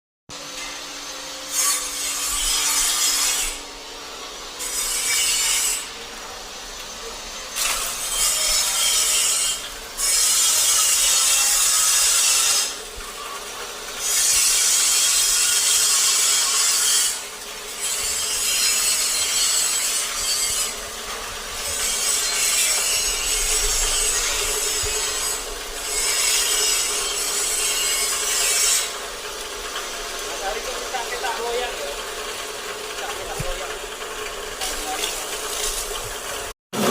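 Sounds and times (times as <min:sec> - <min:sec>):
leaf grinding machine humming: 0:00.3 - 0:36.9
dry leaves being shredded: 0:00.4 - 0:36.9.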